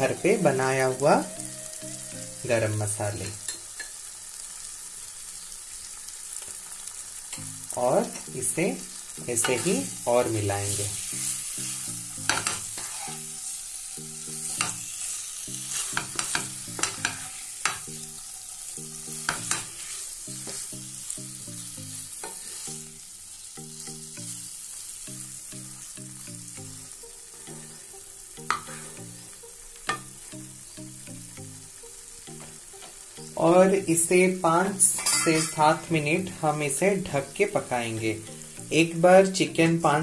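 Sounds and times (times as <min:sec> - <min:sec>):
chicken sizzling in oil: 0:00.0 - 0:40.0.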